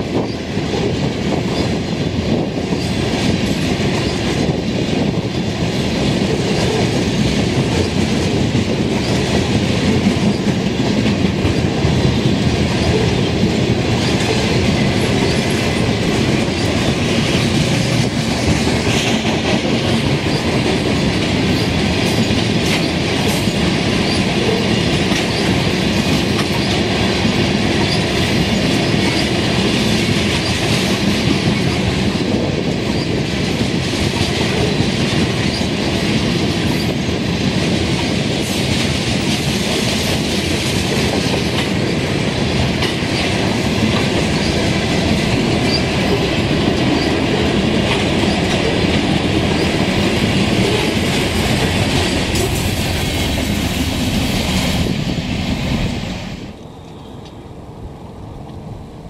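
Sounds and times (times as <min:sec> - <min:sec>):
train wheels rumbling on rails: 0:00.0 - 0:59.0
wheels clicking over rail joints: 0:00.2 - 0:55.1.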